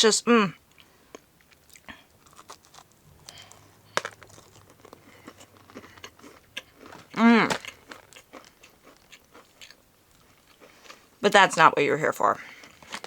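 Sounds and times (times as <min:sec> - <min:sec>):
cookie crunching: 0:01.1 - 0:11.1, 0:12.4 - 0:13.0.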